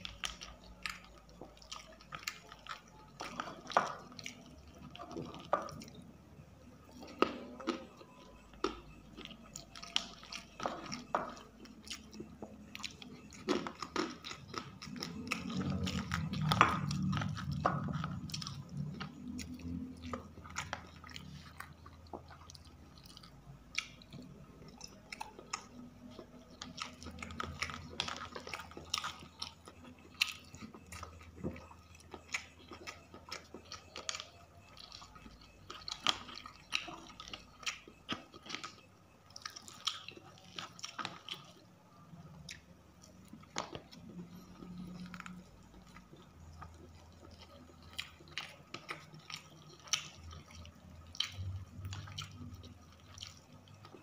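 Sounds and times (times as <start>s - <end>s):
chewing and wet mouth smacking: 0.0s - 54.0s.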